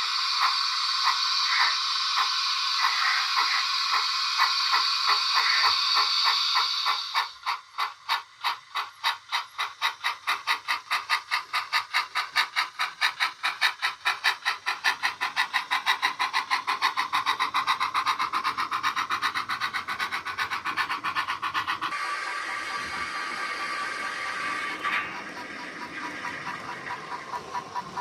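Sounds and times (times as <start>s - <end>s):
model locomotive exhaust chuffs: 0.0s - 28.0s
steady steam hiss: 0.0s - 28.0s.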